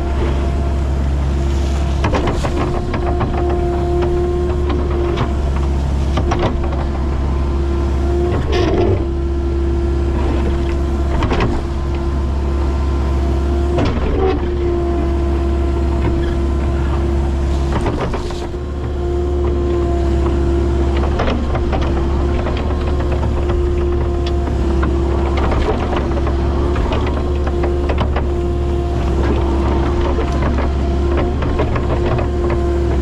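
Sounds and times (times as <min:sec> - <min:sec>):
excavator engine whining: 0:00.0 - 0:33.0.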